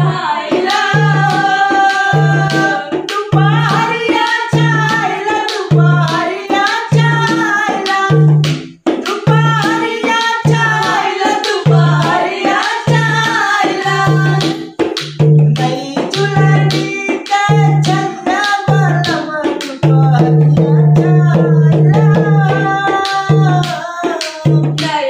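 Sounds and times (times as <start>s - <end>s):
person singing folk song: 0.0s - 8.4s, 9.0s - 14.8s, 15.5s - 25.0s
dhol drum beat: 0.0s - 25.0s.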